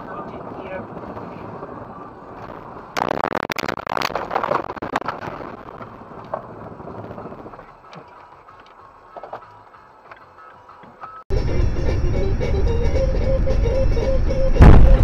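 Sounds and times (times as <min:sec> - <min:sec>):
car road noise on snow: 0:00.0 - 0:03.1, 0:04.0 - 0:15.0.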